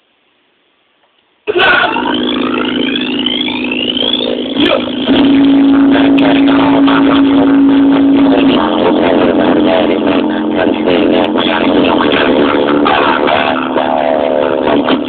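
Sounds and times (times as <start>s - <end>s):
bass-heavy music through subwoofer: 1.5s - 15.0s.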